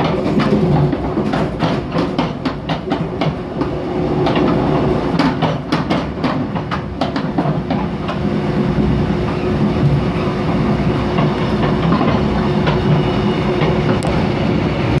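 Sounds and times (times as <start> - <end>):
clacks over rail joints: 0.0 - 8.3, 9.2 - 14.2
train wheels rumbling on rails: 0.0 - 15.0.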